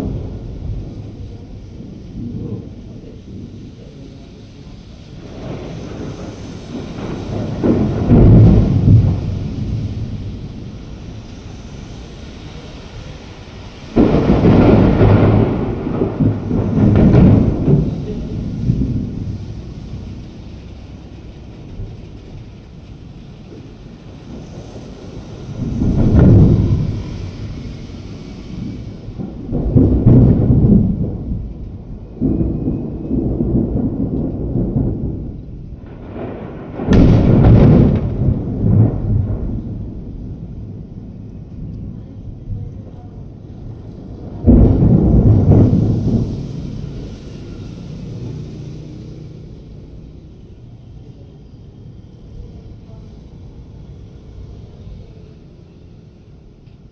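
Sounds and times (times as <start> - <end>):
thunder clap: 0.0 - 3.8, 5.0 - 50.6
thunder rumbling: 0.0 - 56.9.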